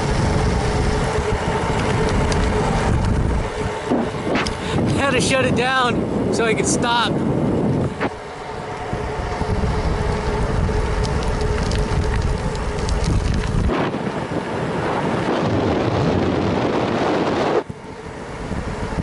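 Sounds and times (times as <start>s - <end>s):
tyre noise on pavement: 0.0s - 5.2s, 7.2s - 19.0s
deep rumble and hum: 0.0s - 19.0s
wind rushing over microphone: 0.0s - 19.0s.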